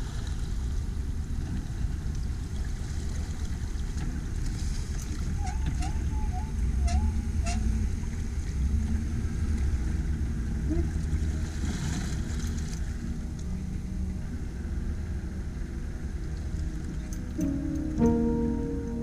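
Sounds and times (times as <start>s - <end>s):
boat motor rumbling: 0.0s - 19.0s.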